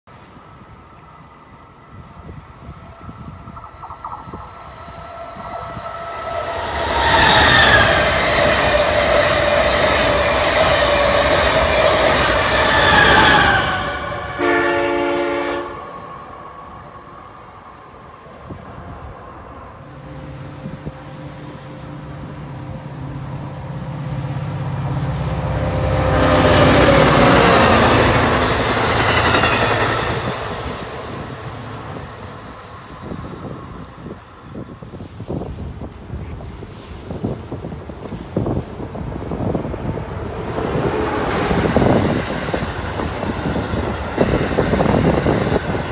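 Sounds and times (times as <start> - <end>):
diesel locomotive engine drone: 0.1 - 35.1, 36.4 - 45.9
high train whine: 0.1 - 45.9
train passing close by: 0.1 - 45.9.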